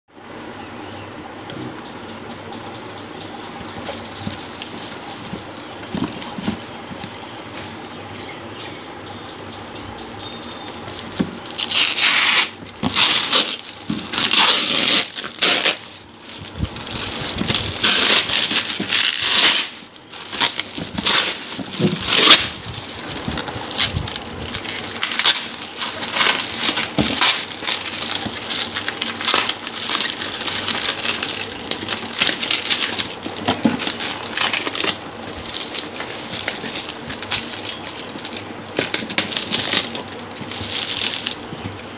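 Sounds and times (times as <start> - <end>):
plastic wrap crinkling: 3.5 - 7.8, 10.7 - 41.9.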